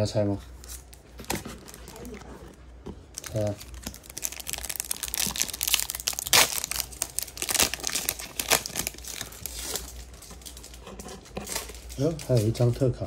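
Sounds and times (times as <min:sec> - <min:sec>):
wrapper crinkling and tearing: 0:00.6 - 0:02.5, 0:03.1 - 0:13.0.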